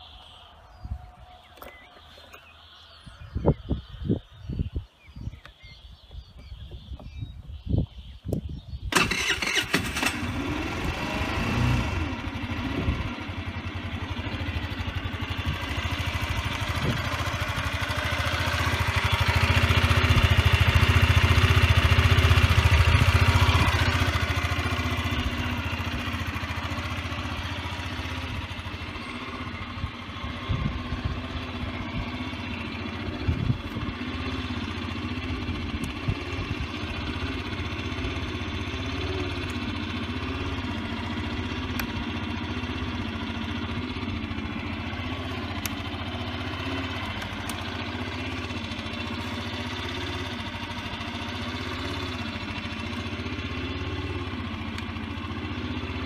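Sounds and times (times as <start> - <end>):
scooter engine starting and idling: 8.7 - 56.0.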